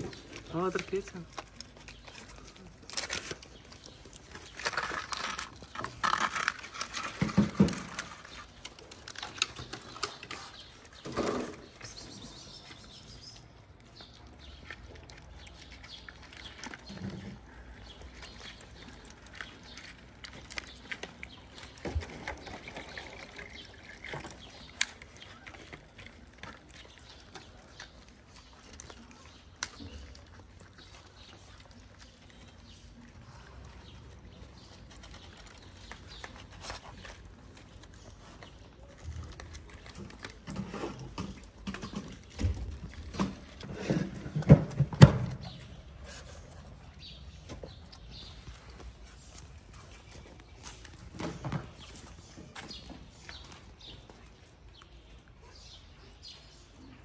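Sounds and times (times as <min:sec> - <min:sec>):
kittens chewing and crunching food: 0:00.0 - 0:57.0.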